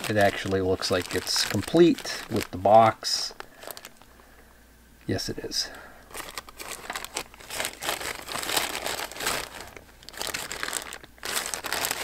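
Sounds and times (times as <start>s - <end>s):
plastic bag crinkling: 0.0s - 4.1s, 6.1s - 12.0s.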